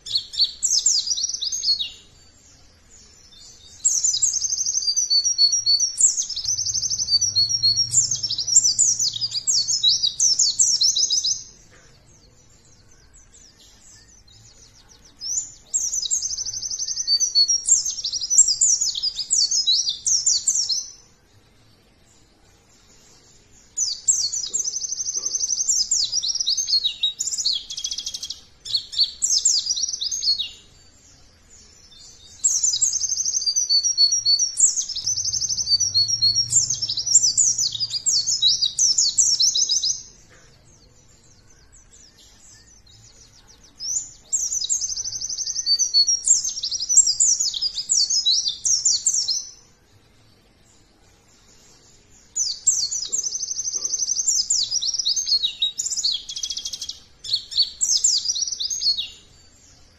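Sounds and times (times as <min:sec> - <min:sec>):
bird twittering song: 0:00.0 - 0:59.9.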